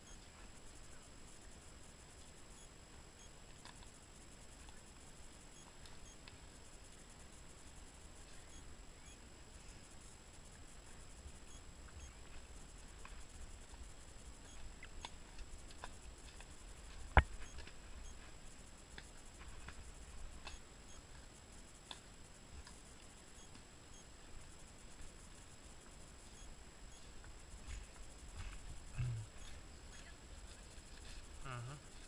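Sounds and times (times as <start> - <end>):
faint irregular clicks: 0.0 - 32.0.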